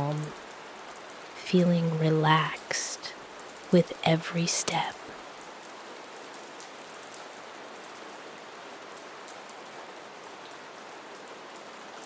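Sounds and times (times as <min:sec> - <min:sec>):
faint raindrop ticks: 0:00.0 - 0:12.0
soft rain hiss: 0:00.0 - 0:12.0.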